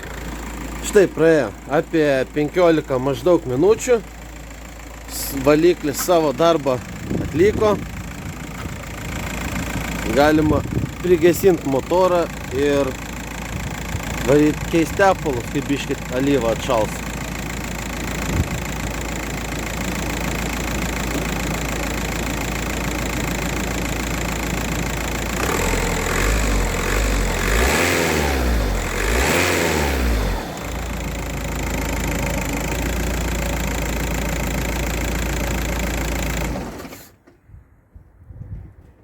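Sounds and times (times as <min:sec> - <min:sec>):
diesel engine idling and revving: 0:00.0 - 0:37.8.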